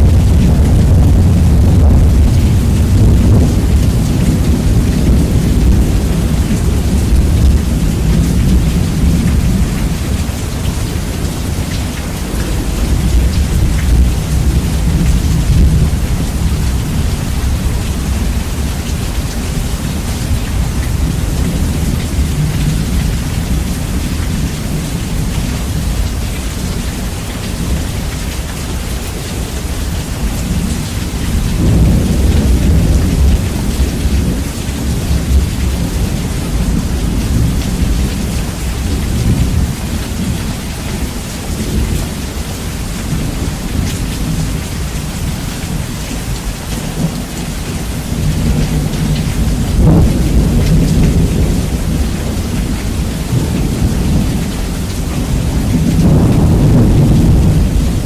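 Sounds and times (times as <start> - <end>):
heavy rain: 0.0 - 58.0
rumbling thunder: 0.0 - 58.0.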